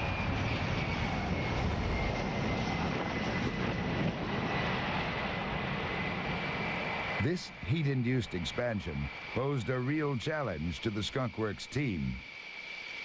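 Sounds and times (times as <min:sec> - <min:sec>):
jet engines roaring with whine: 0:00.0 - 0:13.0.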